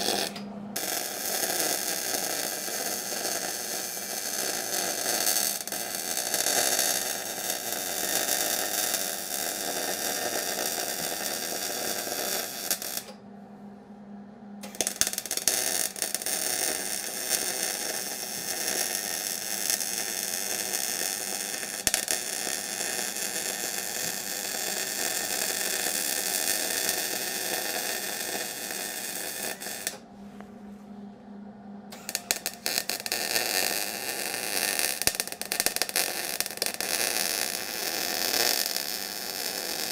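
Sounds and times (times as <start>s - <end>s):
arc welding crackling hiss: 0.0s - 13.2s, 14.6s - 30.0s, 32.0s - 39.9s.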